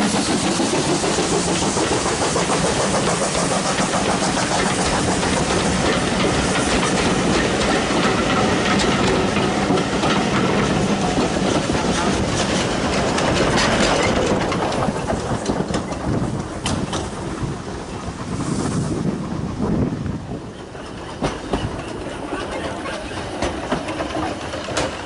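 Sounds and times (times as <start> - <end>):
wheels clicking over rail joints: 0.0 - 17.9, 20.3 - 25.0
train wheels rumbling: 0.0 - 25.0.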